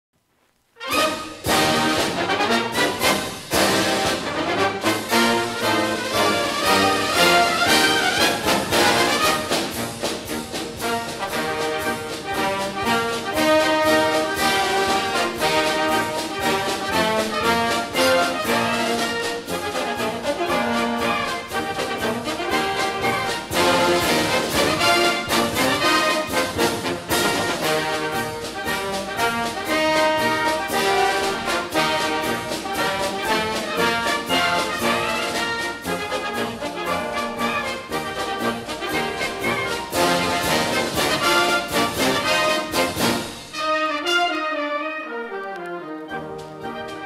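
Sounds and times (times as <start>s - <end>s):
instrumental music with brass: 0.6s - 47.0s.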